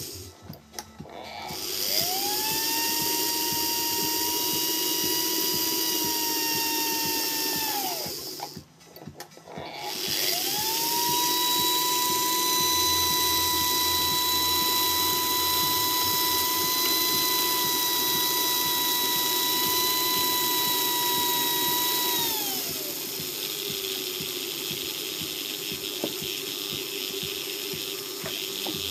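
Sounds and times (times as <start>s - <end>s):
electric motor whine: 0.0s - 28.9s
gears and rollers running: 1.0s - 28.9s.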